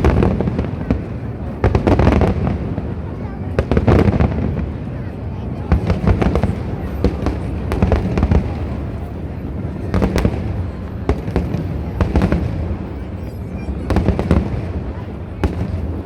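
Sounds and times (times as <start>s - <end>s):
fireworks bangs: 0.0s - 16.0s
low rumble of fireworks bursts: 0.0s - 16.0s.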